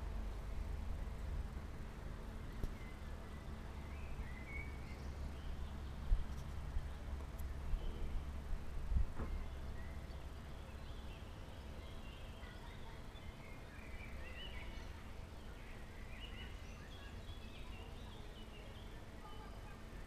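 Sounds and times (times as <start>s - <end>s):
small birds chirping: 2.2s - 20.0s.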